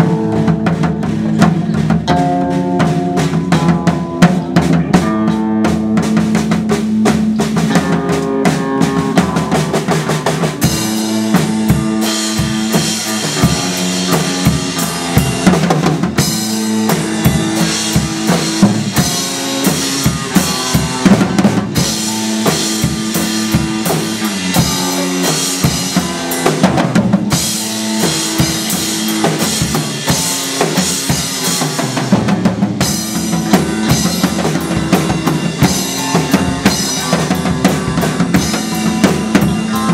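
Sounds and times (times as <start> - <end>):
band playing music: 0.0 - 39.9
bass drum and snare hits: 0.0 - 39.9.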